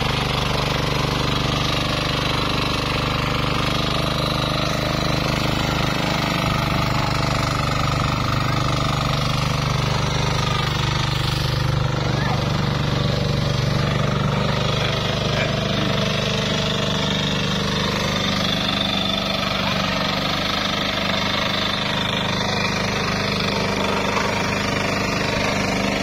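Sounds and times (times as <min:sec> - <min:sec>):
small tractor engine pulsing: 0:00.0 - 0:26.0
wheels churning through water: 0:00.0 - 0:26.0.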